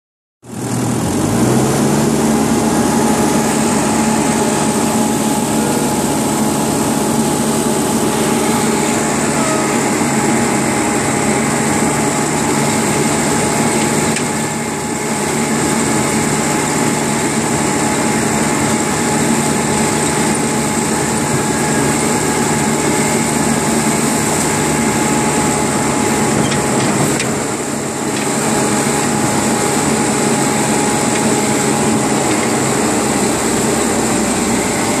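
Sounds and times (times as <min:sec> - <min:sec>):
diesel engine running: 0:00.4 - 0:35.0.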